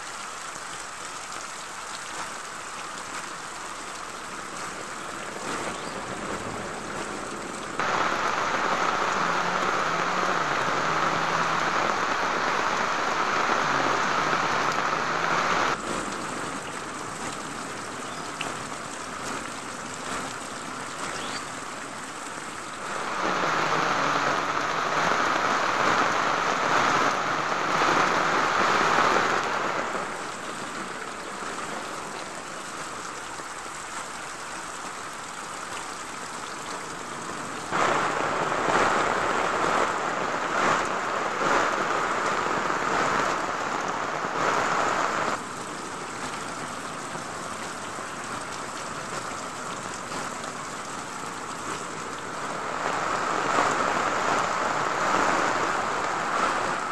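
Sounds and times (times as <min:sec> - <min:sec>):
heavy rain on foliage: 0:00.0 - 0:56.9.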